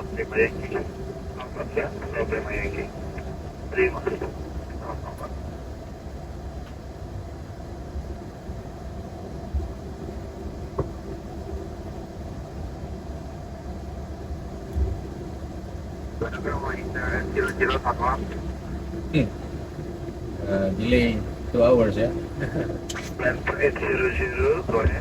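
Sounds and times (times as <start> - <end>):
cockpit hum and rumble: 0.0 - 25.0.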